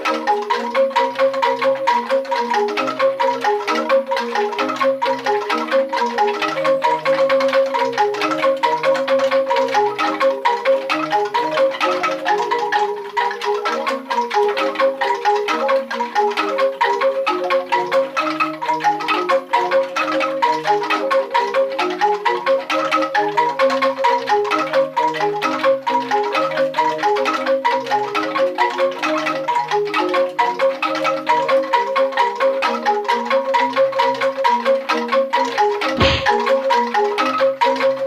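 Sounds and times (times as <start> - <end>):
bamboo angklung rattling notes: 0.0 - 38.0.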